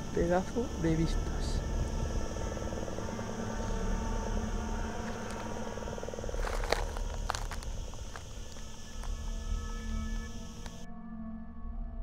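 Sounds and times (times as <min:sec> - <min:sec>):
fast fine buzzing: 0:00.0 - 0:10.8
low rumble: 0:00.7 - 0:10.8.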